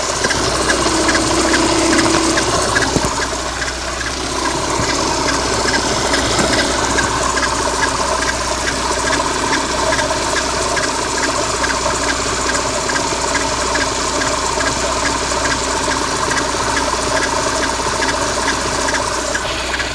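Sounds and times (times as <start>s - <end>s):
car engine idling: 0.0s - 19.9s
light ticking from engine: 0.0s - 19.9s.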